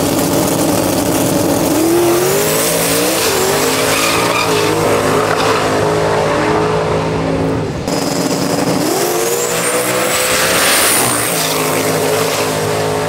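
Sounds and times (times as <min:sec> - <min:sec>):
drag racing cars accelerating: 0:00.0 - 0:13.0.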